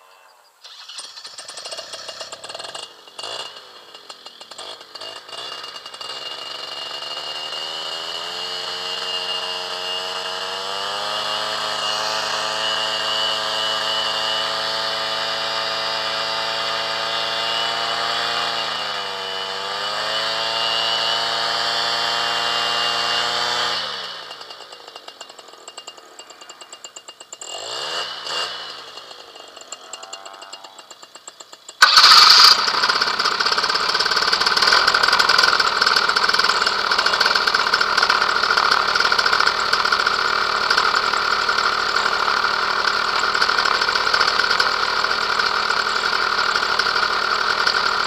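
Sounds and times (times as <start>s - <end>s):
paramotor engine running: 0.6s - 48.0s.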